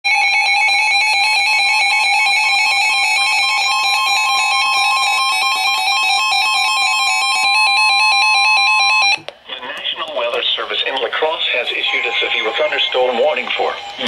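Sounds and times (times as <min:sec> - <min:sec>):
steady alarm tone: 0:00.1 - 0:09.2, 0:11.8 - 0:14.0.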